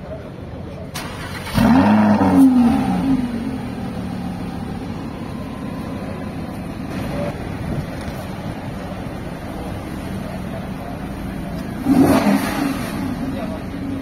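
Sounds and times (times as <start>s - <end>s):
sports car engine idling: 0.1s - 14.0s.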